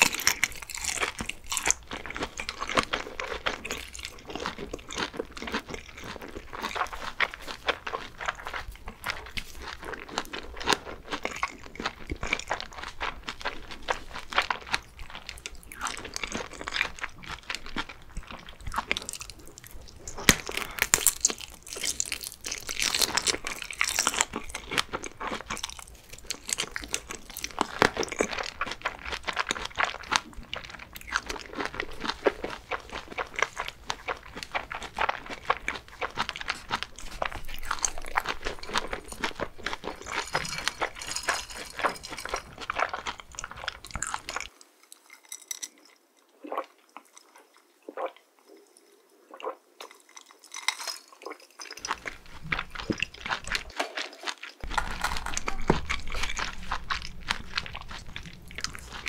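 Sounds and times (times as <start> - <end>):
crunching bites: 0.0 - 44.5, 49.9 - 59.0
wet chewing: 0.0 - 59.0.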